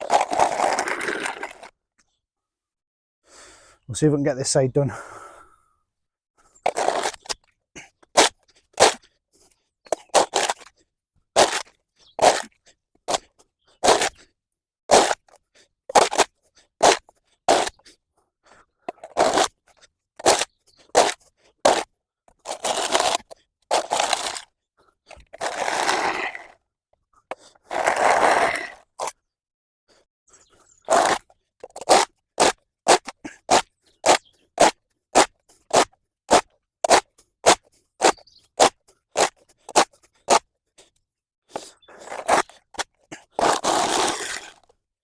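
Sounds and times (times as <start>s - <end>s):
hand tool scraping path: 0.0s - 1.7s, 6.6s - 10.8s, 11.4s - 14.3s, 14.9s - 26.6s, 27.3s - 29.2s, 30.8s - 44.8s.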